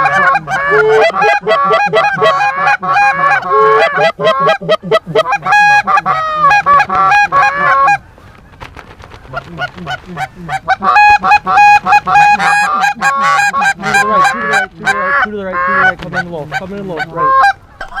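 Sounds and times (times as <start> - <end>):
geese honking: 0.0 - 8.0, 10.2 - 18.0.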